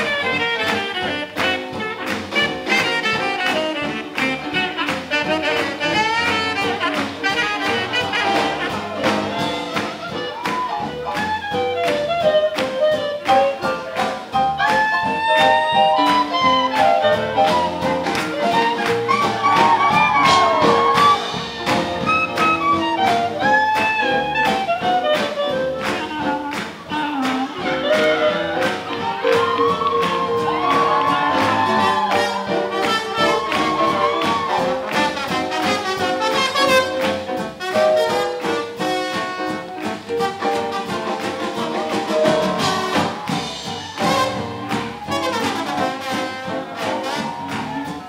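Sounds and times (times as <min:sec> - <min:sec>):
horns playing melody: 0:00.0 - 0:48.0
swing jazz band playing: 0:00.0 - 0:48.0.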